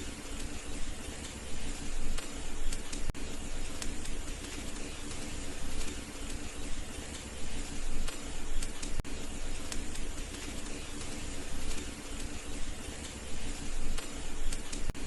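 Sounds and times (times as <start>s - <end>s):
wood fire hissing and crackling: 0.0s - 15.0s.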